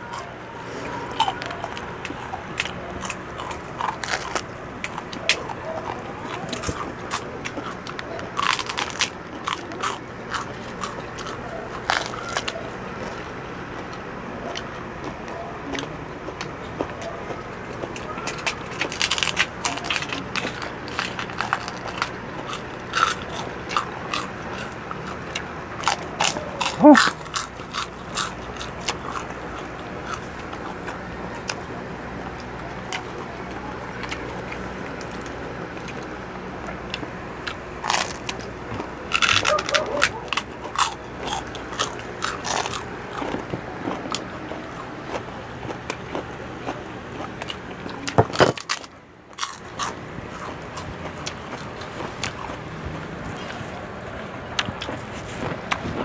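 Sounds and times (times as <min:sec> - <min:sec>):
crunching and chewing crispy food: 0:00.0 - 0:56.0.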